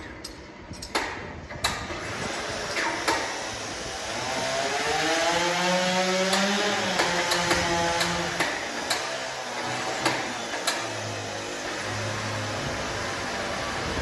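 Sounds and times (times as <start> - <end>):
motor running: 1.9 - 14.0.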